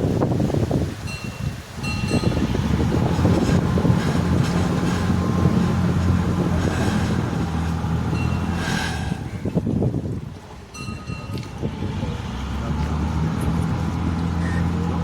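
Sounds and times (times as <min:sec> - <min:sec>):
wind buffeting microphone: 0:00.0 - 0:15.0
ferry engine droning: 0:01.0 - 0:15.0.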